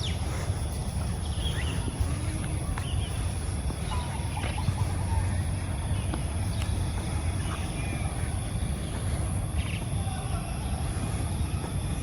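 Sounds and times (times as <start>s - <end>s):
choppy low rumble: 0.0s - 12.0s.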